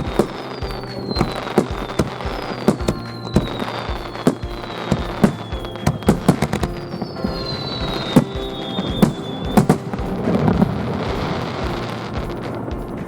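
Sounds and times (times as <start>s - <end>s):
fireworks whistles falling in pitch: 0.0s - 11.9s
background music: 0.0s - 13.0s
fireworks bangs: 0.0s - 13.0s.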